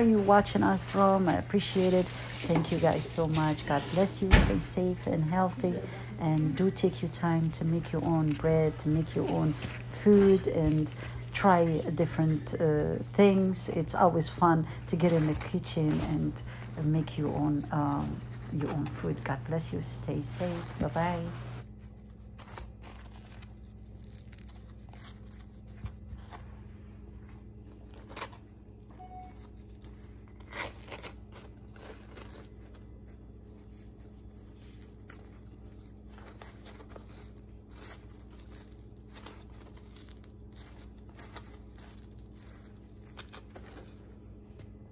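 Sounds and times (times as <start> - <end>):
bread rustling and tearing: 0.0 - 4.2, 6.1 - 44.9
bread crackling: 0.0 - 44.9.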